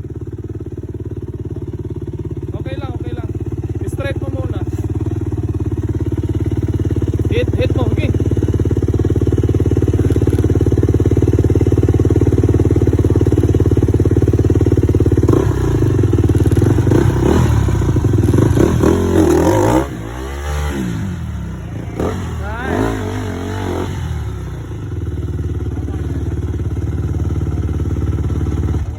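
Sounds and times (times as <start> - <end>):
dirt bike engine revving: 1.1 - 28.9.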